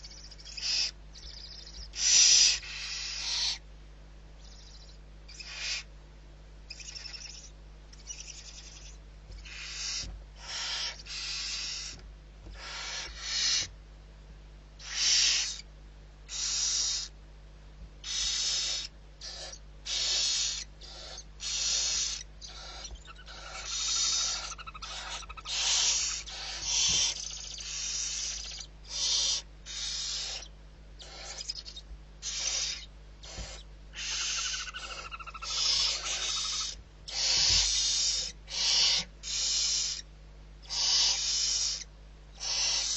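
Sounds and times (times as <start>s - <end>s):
barn owl hissing calls: 0.0s - 3.6s, 4.4s - 5.9s, 6.7s - 13.8s, 14.8s - 15.7s, 16.3s - 17.2s, 18.0s - 42.9s
faint low hum: 0.0s - 42.9s.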